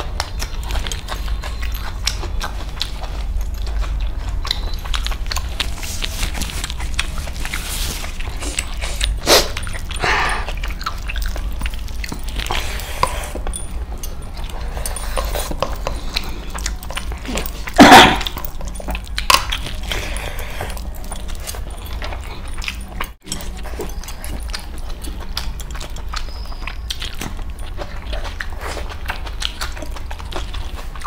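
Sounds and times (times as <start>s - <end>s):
chewing and lip-smacking: 0.0s - 31.0s.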